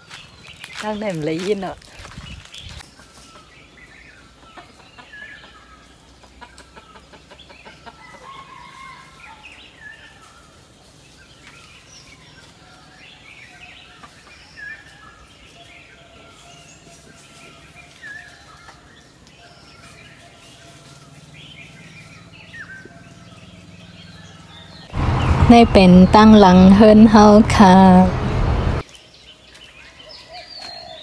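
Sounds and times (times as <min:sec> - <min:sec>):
birds chirping: 0:00.0 - 0:08.1, 0:09.2 - 0:31.0.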